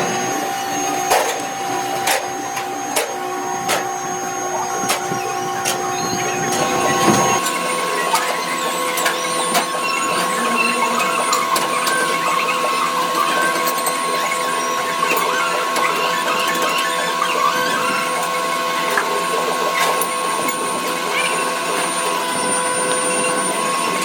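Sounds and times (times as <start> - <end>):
workshop machinery humming: 0.0 - 24.0.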